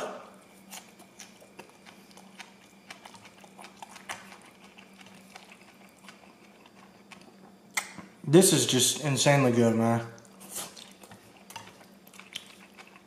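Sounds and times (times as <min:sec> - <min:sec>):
person chewing: 0:00.0 - 0:08.2, 0:10.2 - 0:13.0
faint low hum: 0:00.0 - 0:13.0.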